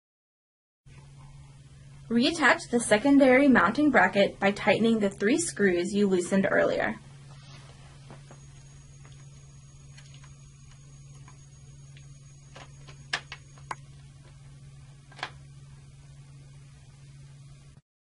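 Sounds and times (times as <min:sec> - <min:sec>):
low hum: 0:00.9 - 0:17.8.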